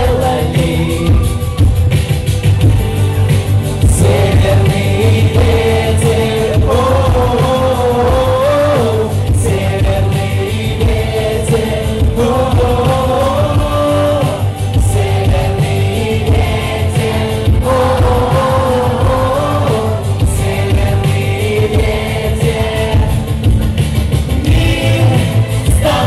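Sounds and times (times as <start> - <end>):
pop-rock song with singing: 0.0 - 26.0.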